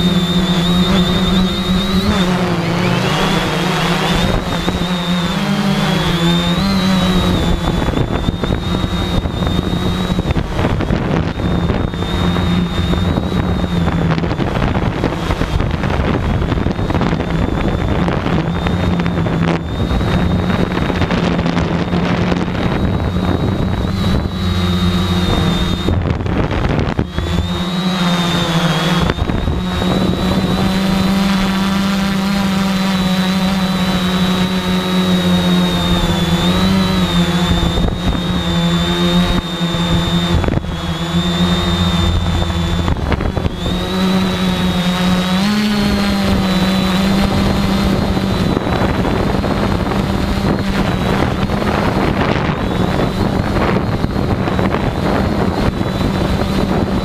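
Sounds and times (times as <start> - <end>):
drone motors humming and whining: 0.0 - 57.0
wind noise: 0.0 - 57.0.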